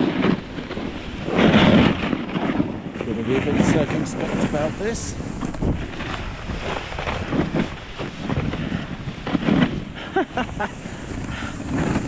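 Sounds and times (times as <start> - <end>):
skis scraping over snow: 0.0 - 12.0
wind buffeting microphone: 0.0 - 12.0.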